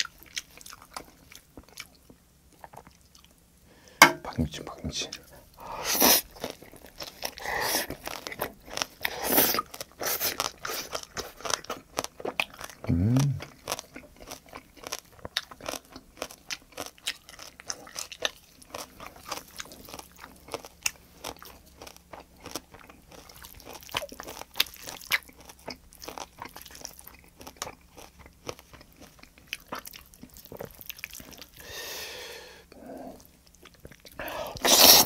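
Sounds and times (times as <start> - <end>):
chewing food: 0.0 - 3.4, 5.0 - 35.0.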